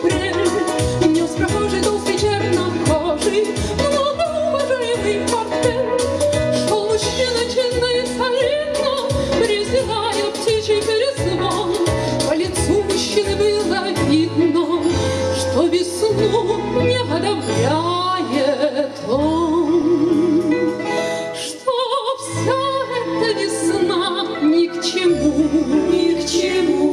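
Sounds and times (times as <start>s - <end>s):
women singing: 0.0s - 20.7s, 21.4s - 26.9s
instrumental accompaniment with bass line: 0.0s - 21.6s.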